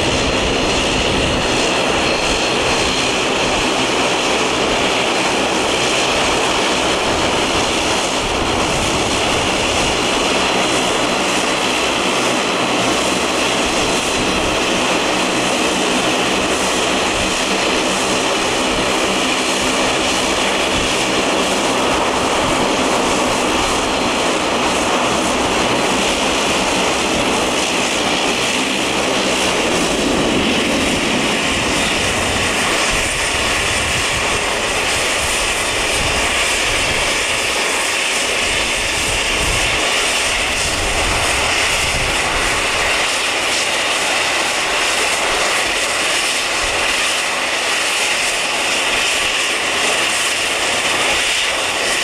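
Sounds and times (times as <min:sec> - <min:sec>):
high turbine whine: 0:00.0 - 0:52.0
propeller drone: 0:00.0 - 0:52.0.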